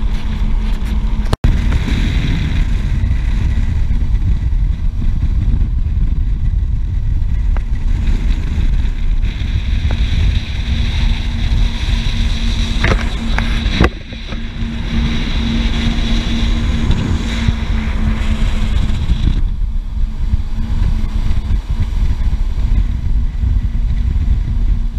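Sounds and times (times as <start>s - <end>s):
motorboat engine rumble: 0.0s - 24.9s.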